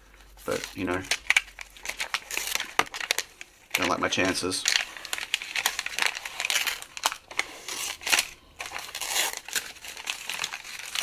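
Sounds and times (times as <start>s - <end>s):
paper backing crinkling: 0.0s - 11.0s.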